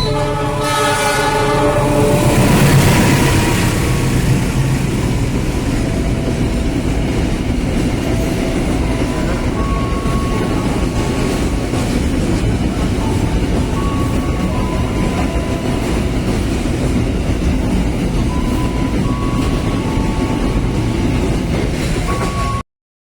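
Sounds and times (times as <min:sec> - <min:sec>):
freight train rumble and clatter: 0:00.0 - 0:22.6.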